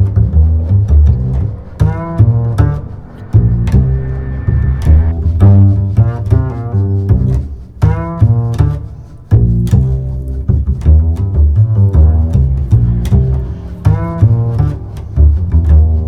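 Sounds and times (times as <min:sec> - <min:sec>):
deep bass line: 0:00.0 - 0:16.0
low string instruments: 0:00.0 - 0:16.0.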